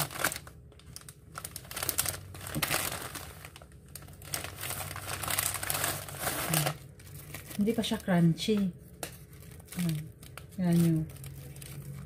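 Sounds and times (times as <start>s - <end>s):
dried seaweed sheets crinkling: 0.0s - 12.0s.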